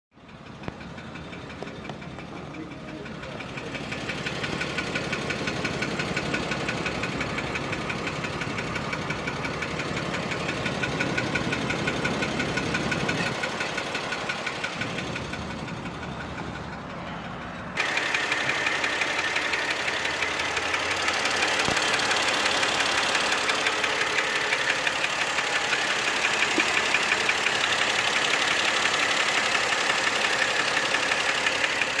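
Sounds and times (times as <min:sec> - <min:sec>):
engine running with regular knock: 0:00.2 - 0:32.0.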